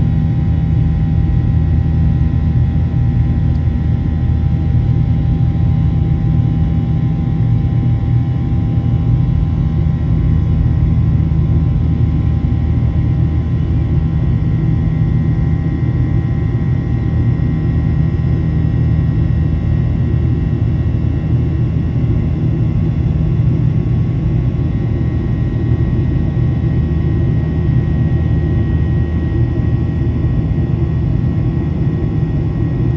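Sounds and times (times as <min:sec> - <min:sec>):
jet engine cabin rumble: 0:00.0 - 0:32.9.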